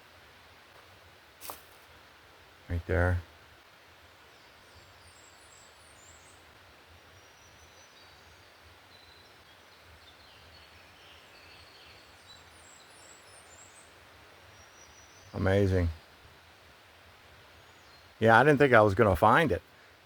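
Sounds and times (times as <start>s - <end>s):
low background hiss: 0.0s - 20.0s
songbirds chirping: 0.0s - 20.0s.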